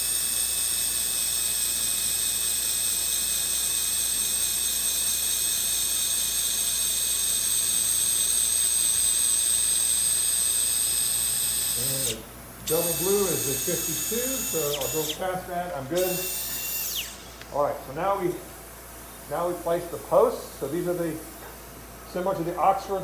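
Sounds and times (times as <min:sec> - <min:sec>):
surgical drill whining: 0:00.0 - 0:22.7.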